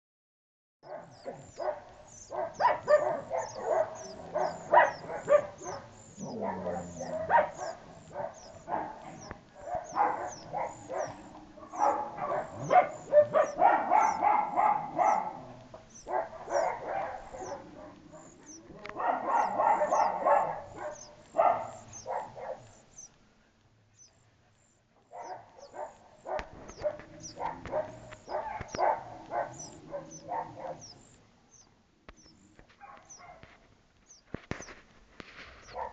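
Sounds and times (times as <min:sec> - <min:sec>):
dog barking: 0:00.8 - 0:22.8, 0:25.0 - 0:31.0, 0:32.8 - 0:33.6, 0:35.6 - 0:35.9
nestling birds chirping: 0:00.8 - 0:35.9.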